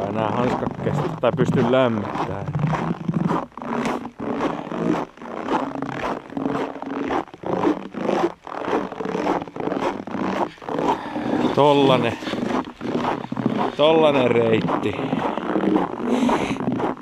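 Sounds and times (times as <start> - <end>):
footsteps crunching in snow: 0.0 - 17.0.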